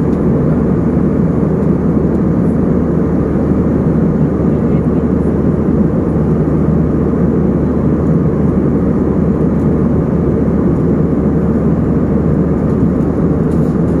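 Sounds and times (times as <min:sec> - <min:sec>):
jet airliner cabin drone: 0:00.0 - 0:14.0.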